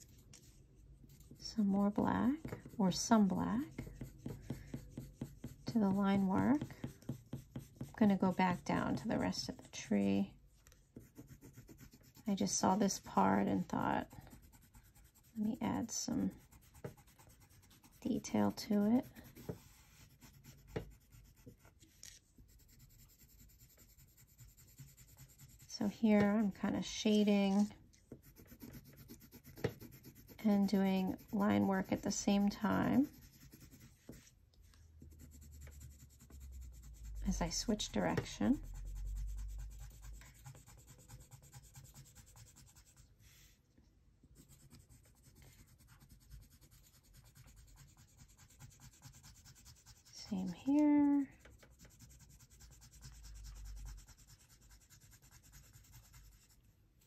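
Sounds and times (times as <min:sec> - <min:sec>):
pencil scratching on paper: 0:00.0 - 0:10.2, 0:10.9 - 0:43.6, 0:44.4 - 0:56.6.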